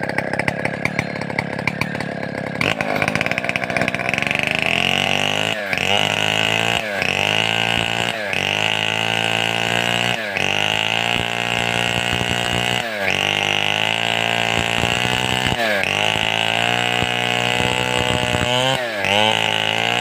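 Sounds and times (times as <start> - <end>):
chainsaw running at high revs: 0.0 - 20.0.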